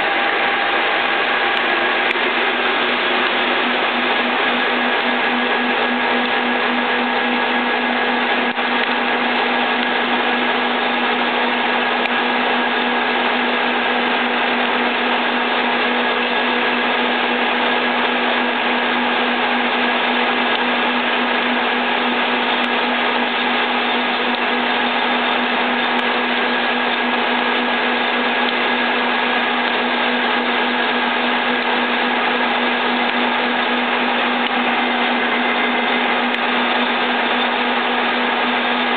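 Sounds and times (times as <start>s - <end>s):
boring machine drilling steel: 0.0s - 38.9s.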